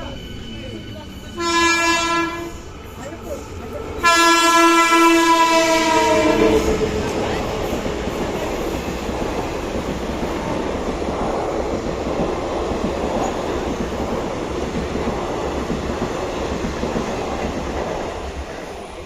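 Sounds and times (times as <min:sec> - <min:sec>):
train wheels running over track: 0:00.0 - 0:19.0.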